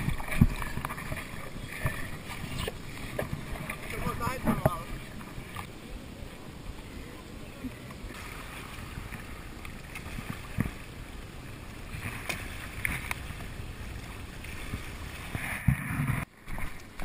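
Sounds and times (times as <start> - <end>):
waves lapping on rocks: 0.0 - 5.7, 8.0 - 17.0.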